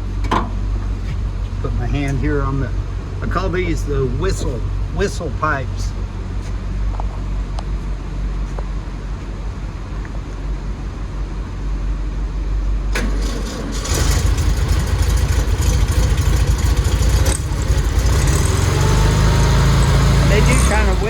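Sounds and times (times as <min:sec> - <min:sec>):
air-cooled car engine running: 0:00.0 - 0:21.0.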